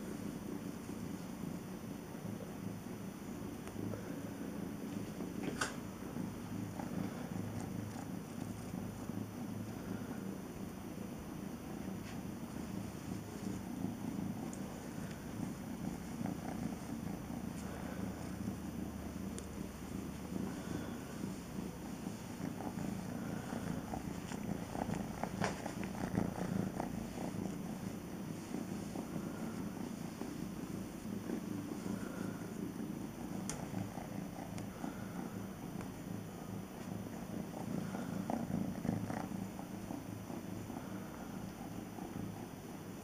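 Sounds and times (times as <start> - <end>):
kitten purring: 0.0 - 43.0.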